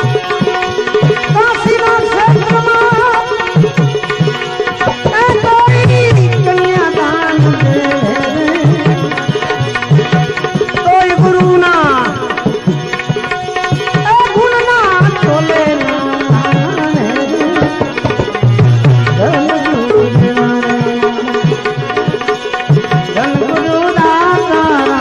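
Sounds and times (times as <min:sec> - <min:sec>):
hand drums: 0:00.0 - 0:25.0.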